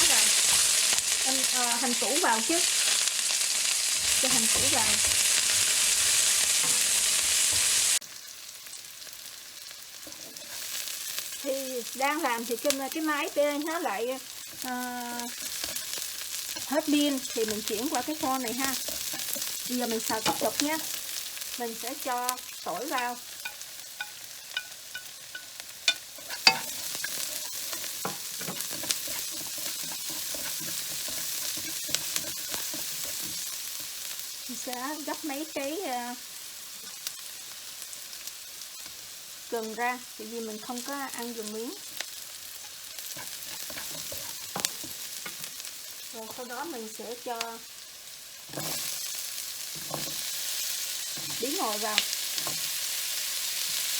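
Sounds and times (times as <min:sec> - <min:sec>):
shallots sizzling in hot oil: 0:00.0 - 0:53.9.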